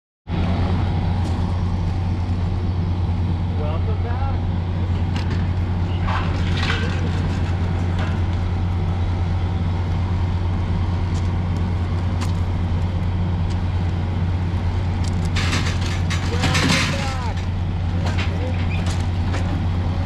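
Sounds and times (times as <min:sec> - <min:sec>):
train diesel engine idling: 0:00.3 - 0:20.0.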